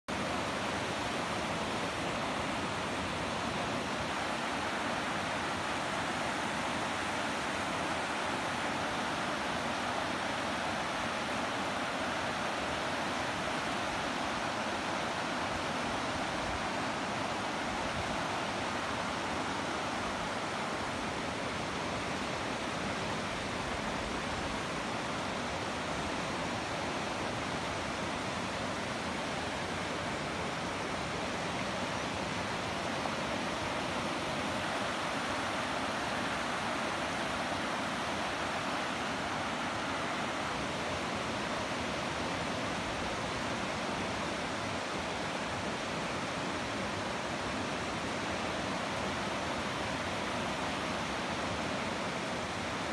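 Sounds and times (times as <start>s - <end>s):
river rushing over stones: 0.1s - 52.9s.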